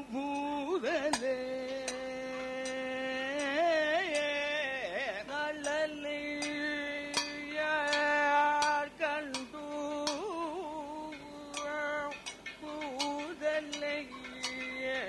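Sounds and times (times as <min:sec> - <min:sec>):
man singing: 0:00.0 - 0:15.0
metallic percussion strikes: 0:00.0 - 0:15.0.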